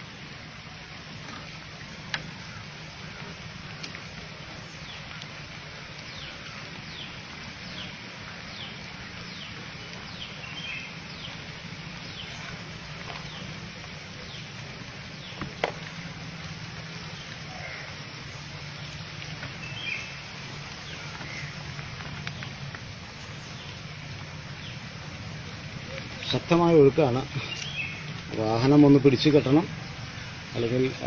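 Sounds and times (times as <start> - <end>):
rushing floodwater: 0.0 - 31.0.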